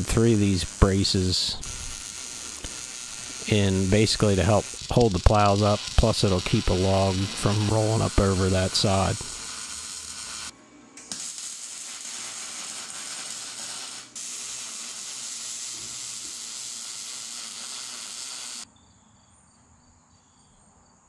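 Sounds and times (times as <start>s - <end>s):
arc welding crackling sizzle: 0.0s - 18.6s.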